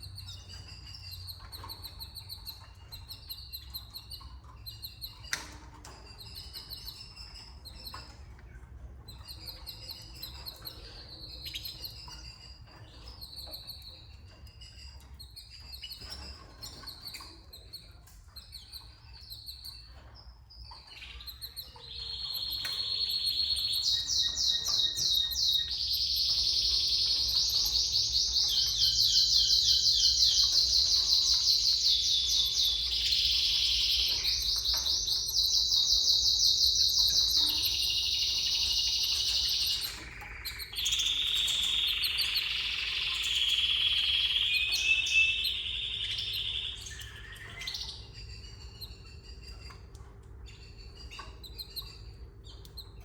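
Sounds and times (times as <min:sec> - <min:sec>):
canaries chirping: 0:00.0 - 0:53.0
rapid trilling canary song: 0:00.0 - 0:53.0.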